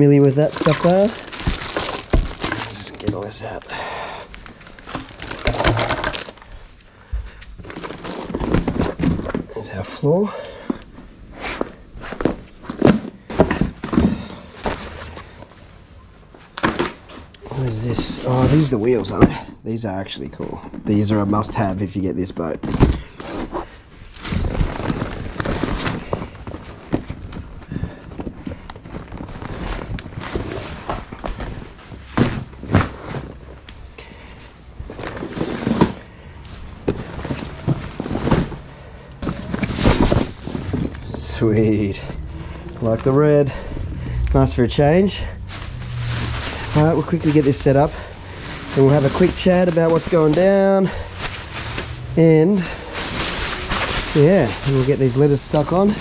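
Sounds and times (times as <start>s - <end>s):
plastic and cardboard rustling: 0.0s - 19.5s, 20.2s - 56.0s.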